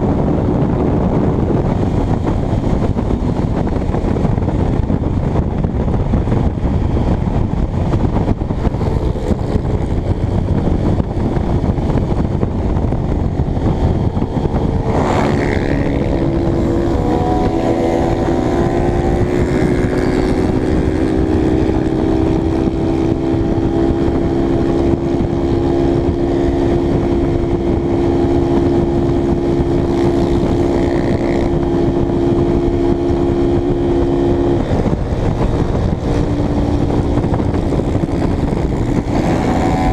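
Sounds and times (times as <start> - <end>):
motorcycle engine running: 0.0 - 39.9
wind rumble on microphone: 0.0 - 39.9.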